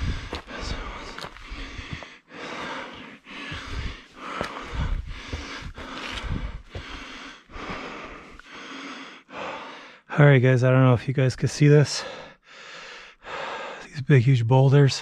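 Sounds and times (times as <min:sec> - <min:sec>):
person breathing hard: 0:00.0 - 0:10.1, 0:12.0 - 0:13.9.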